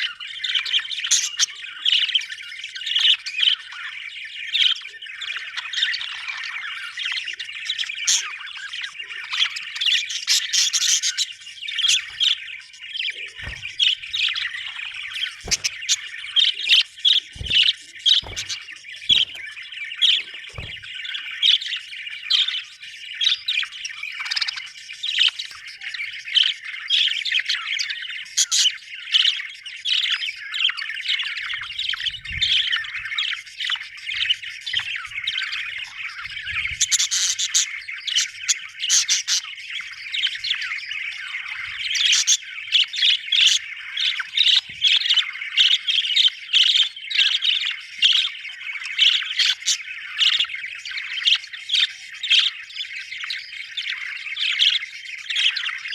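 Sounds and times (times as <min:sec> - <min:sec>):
budgerigars chattering: 0:00.0 - 0:55.9.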